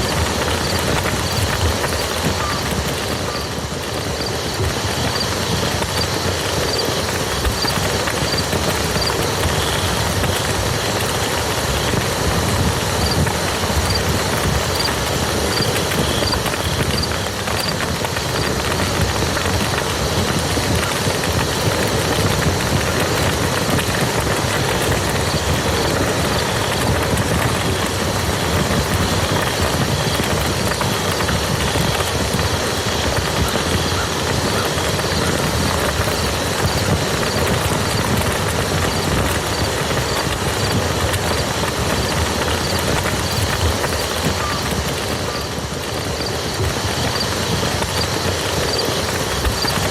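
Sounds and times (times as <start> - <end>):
heavy rain on a muddy field: 0.0 - 49.9.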